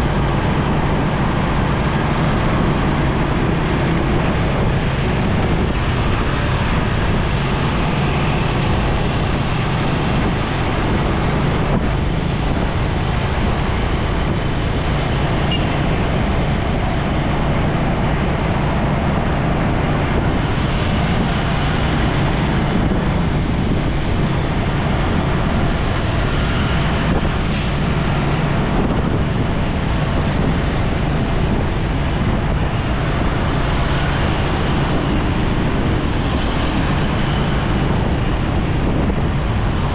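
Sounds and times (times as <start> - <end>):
motorcycle engine drone: 0.0 - 39.9
surrounding traffic: 0.0 - 39.9
wind rushing: 0.0 - 39.9.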